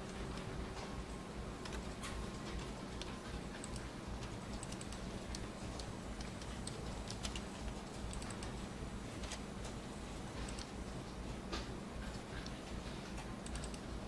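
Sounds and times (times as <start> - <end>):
steady low hum: 0.0 - 14.0
computer mouse and keyboard clicks: 1.6 - 10.8, 11.5 - 14.0.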